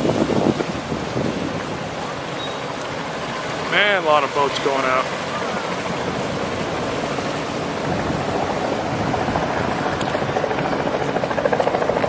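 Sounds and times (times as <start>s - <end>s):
boat engines throbbing rumble: 0.0s - 12.0s
rushing water: 0.0s - 12.0s
wind: 0.0s - 12.0s.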